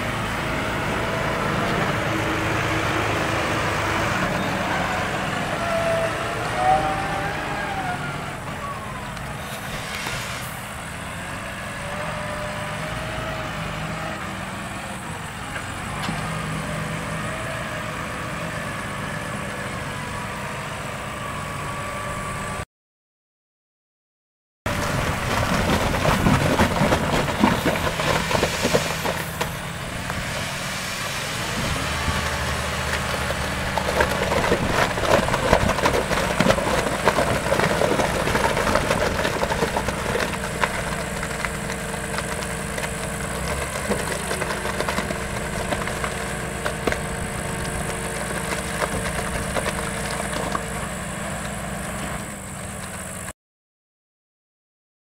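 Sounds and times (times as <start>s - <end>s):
tractor diesel engine running: 0.0s - 22.6s, 24.7s - 53.3s.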